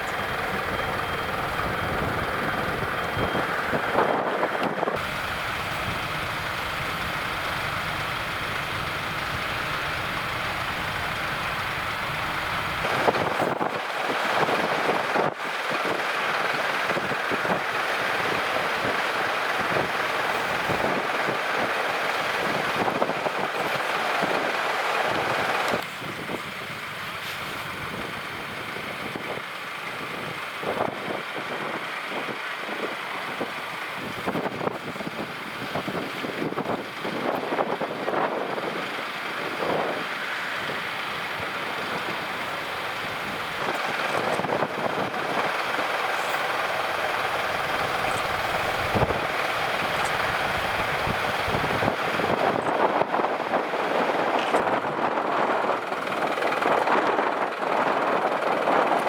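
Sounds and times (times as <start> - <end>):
tractors driving by: 0.0 - 59.0
wind buffeting microphone: 0.0 - 59.0.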